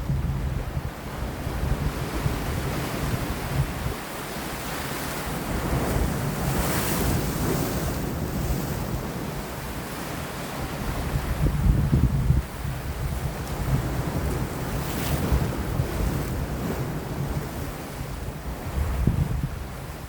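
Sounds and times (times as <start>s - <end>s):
wind buffeting microphone: 0.0s - 20.0s
waves washing against rocks: 1.1s - 19.9s.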